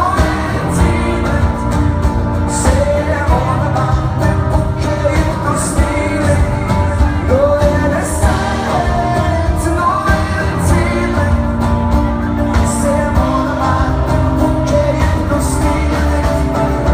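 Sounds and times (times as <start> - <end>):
live rock band playing: 0.0 - 16.9
man singing: 0.0 - 16.9.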